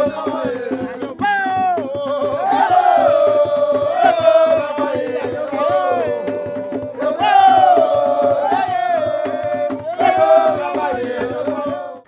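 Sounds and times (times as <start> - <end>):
hand percussion: 0.0 - 12.0.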